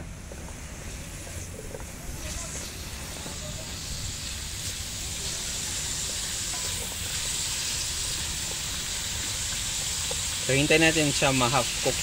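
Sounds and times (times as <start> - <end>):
vegetables sizzling in oil: 2.0 - 12.0.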